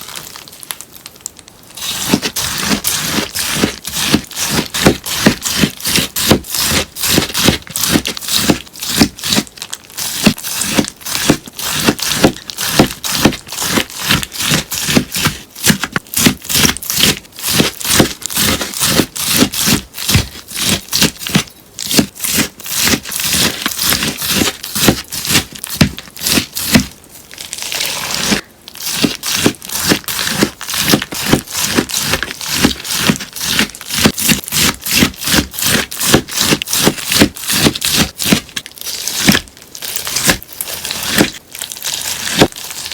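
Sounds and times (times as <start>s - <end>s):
sponge being cut: 1.8s - 27.0s, 27.6s - 42.9s.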